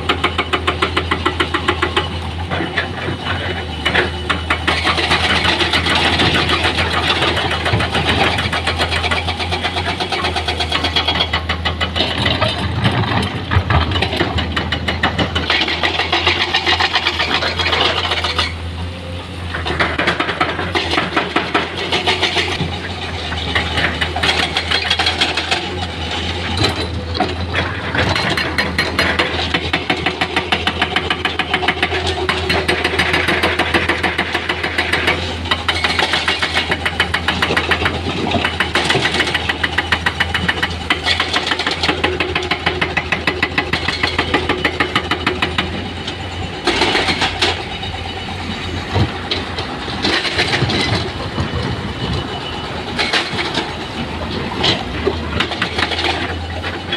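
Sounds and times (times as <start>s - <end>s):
heavy diesel machinery running: 0.0s - 56.9s.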